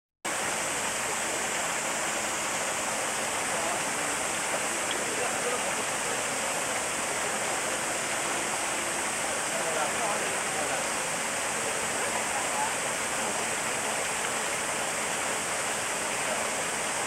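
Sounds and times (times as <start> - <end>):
running water rushing: 0.3 - 17.0
faint voices: 1.0 - 15.3, 16.0 - 17.0.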